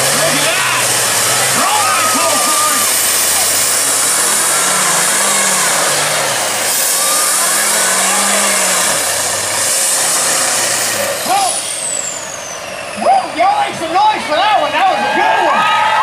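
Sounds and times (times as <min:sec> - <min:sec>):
monster truck engines running: 0:00.0 - 0:16.0.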